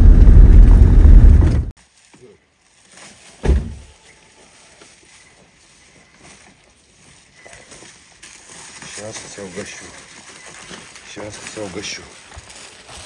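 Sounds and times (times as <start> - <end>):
plastic bags rustling: 1.8 - 13.0.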